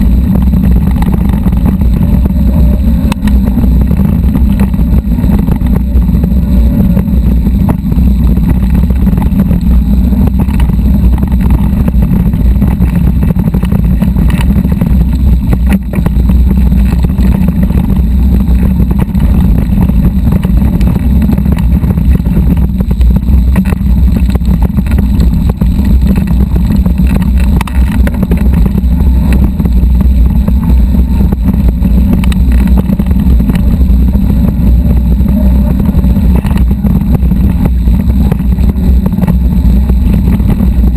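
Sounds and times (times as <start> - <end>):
bike rattling over gravel: 0.0 - 40.9
wind buffeting microphone: 0.0 - 40.9.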